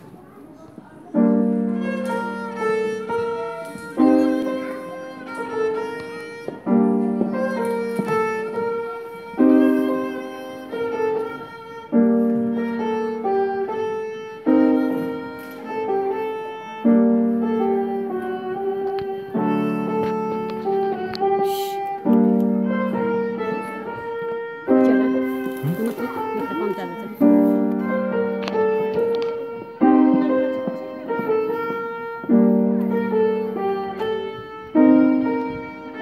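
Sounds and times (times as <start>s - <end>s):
piano chords: 1.1s - 36.0s
violin folk melody: 1.2s - 36.0s.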